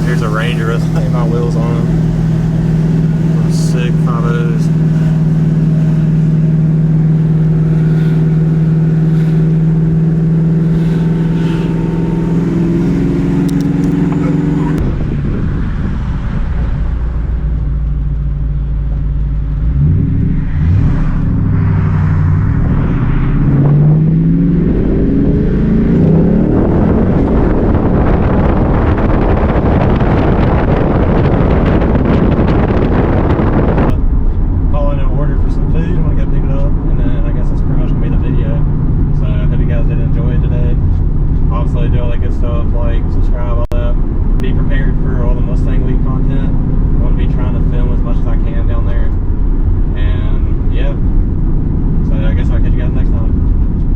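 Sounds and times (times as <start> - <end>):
car engine accelerating: 0.0 - 53.9
road noise: 0.0 - 53.9.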